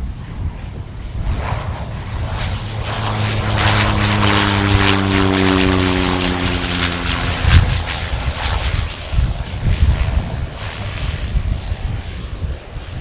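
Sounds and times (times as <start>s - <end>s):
turboprop aircraft humming: 0.0s - 13.0s.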